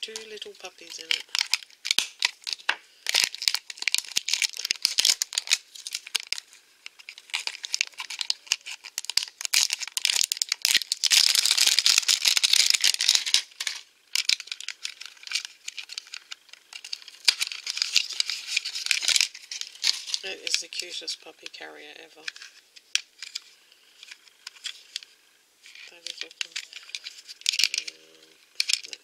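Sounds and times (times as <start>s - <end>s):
plastic shrink-wrap crinkling: 0.0s - 21.6s, 22.2s - 29.0s.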